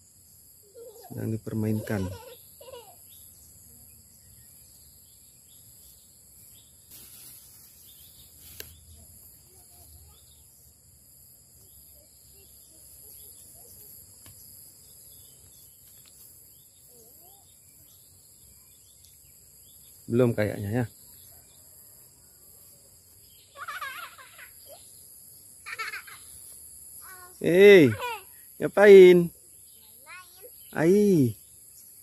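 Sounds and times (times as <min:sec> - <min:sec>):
crickets droning: 0:00.0 - 0:32.0.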